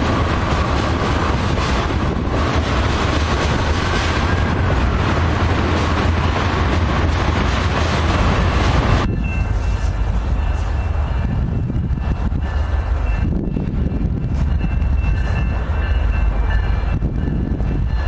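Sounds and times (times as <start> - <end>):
train wheels on rails: 0.0 - 18.0
wind buffeting microphone: 0.0 - 18.0.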